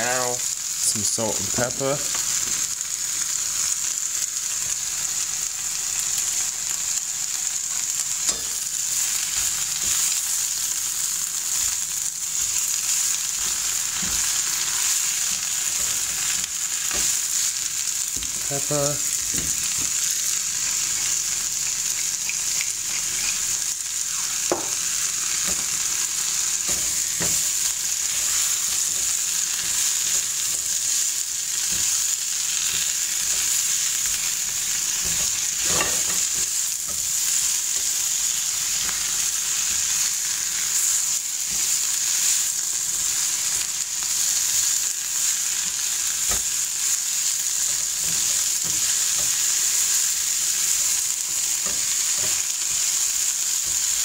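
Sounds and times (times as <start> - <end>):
spinach sizzling in a frying pan: 0.0 - 54.0.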